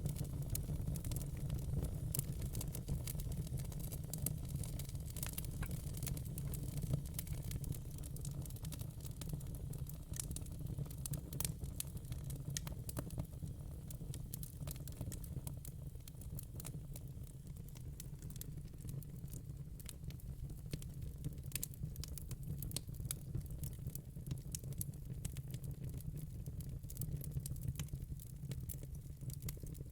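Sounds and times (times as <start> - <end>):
burning logs crackling: 0.0 - 25.6
low fire rumble: 0.0 - 29.9.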